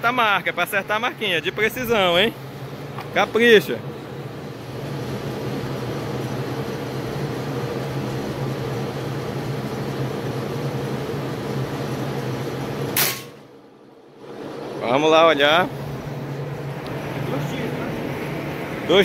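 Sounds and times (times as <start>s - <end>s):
low mechanical machine hum: 0.0s - 19.0s.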